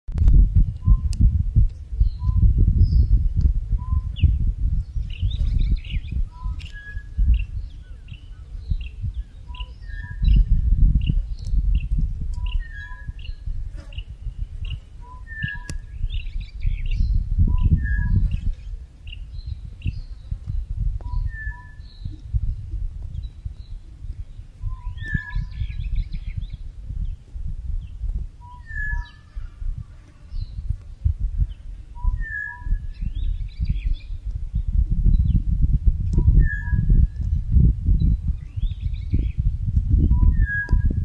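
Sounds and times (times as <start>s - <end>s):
low rumble: 0.2s - 28.7s, 30.4s - 41.0s
songbirds chirping: 0.6s - 41.0s.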